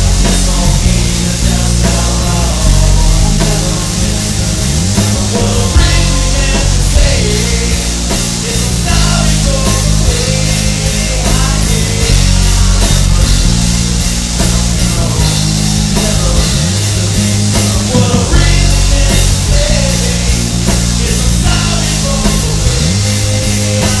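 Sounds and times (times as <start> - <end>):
drum kit steady beat: 0.0 - 24.0
electric bass: 0.0 - 24.0
electric guitar: 0.0 - 24.0.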